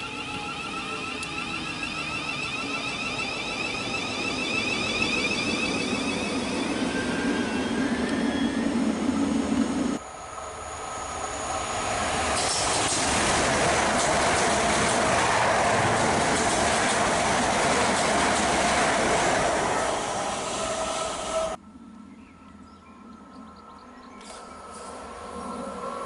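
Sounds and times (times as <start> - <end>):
electric train passing at speed: 0.0 - 21.6, 24.2 - 26.0
wheels rushing on rail: 0.0 - 21.6, 24.3 - 26.0
faint train whine: 0.0 - 26.0.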